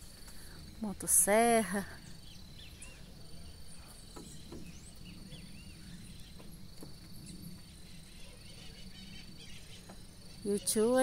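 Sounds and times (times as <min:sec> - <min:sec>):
faint insect trill: 0:00.0 - 0:11.0.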